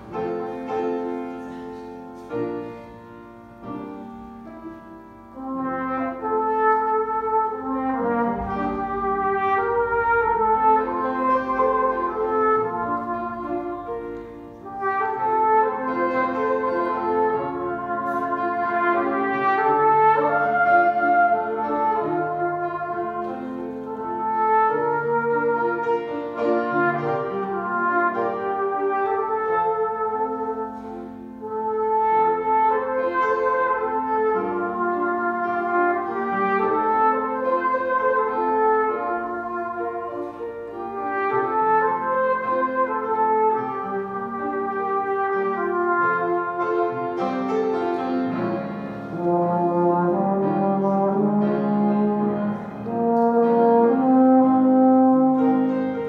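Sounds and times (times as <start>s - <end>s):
brass duet: 0.0s - 56.0s
piano accompaniment: 0.0s - 56.0s.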